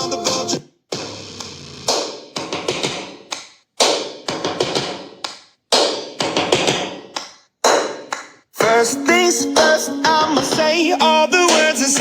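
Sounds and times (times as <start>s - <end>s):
percussive clap and stomp beat: 0.9s - 12.0s.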